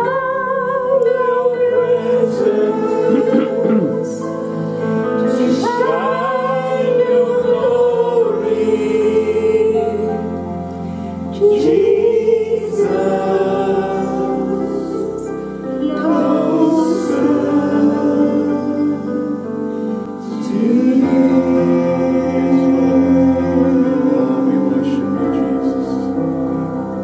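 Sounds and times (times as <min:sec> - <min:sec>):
women singing worship song: 0:00.0 - 0:26.2
electronic keyboard chords: 0:00.0 - 0:27.0.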